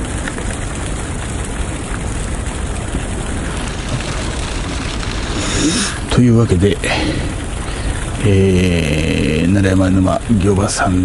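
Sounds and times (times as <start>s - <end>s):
steady rushing noise with rumble: 0.0s - 11.0s.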